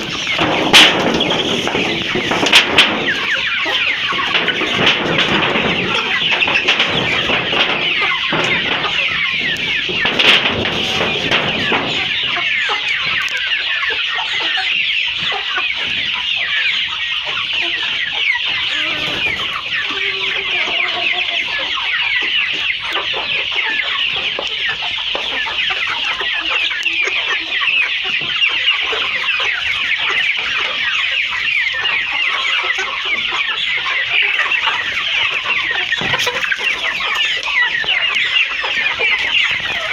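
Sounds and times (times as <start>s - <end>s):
flock of chickens calling: 0.0s - 39.9s.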